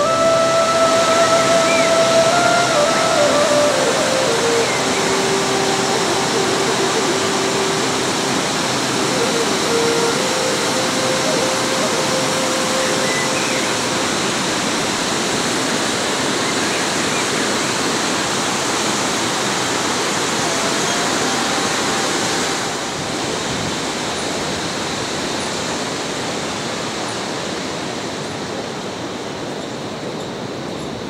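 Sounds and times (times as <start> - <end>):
rushing mountain water: 0.0 - 31.0.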